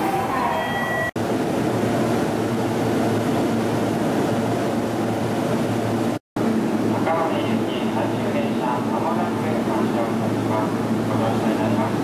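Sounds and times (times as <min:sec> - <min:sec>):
stopped electric train humming: 0:00.0 - 0:12.0.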